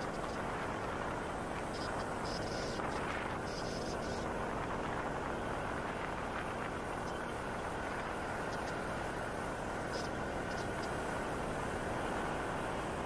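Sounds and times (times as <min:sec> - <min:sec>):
atv engine running: 0:00.0 - 0:13.0
wind noise: 0:00.0 - 0:13.0.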